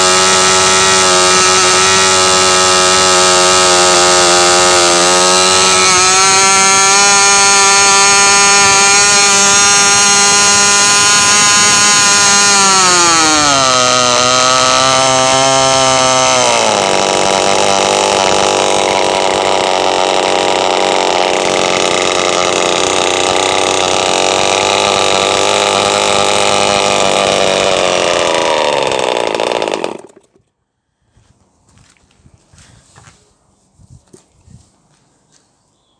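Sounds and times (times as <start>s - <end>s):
model engine high-pitched whine: 0.0s - 30.4s.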